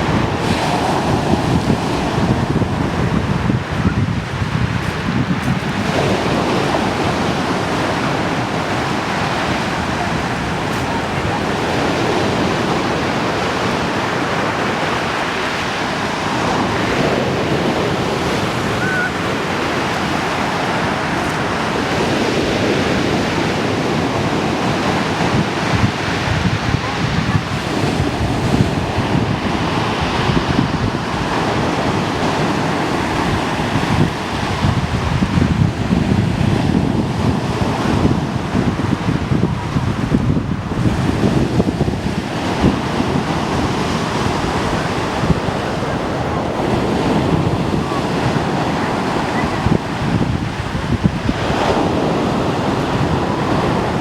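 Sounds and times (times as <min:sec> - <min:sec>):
sea surf breaking on shore: 0:00.0 - 0:54.0
wind buffeting microphone: 0:00.0 - 0:54.0.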